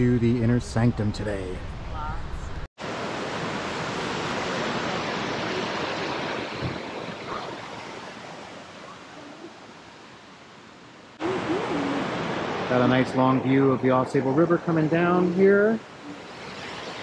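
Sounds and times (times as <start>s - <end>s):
rushing whitewater: 2.8s - 17.0s.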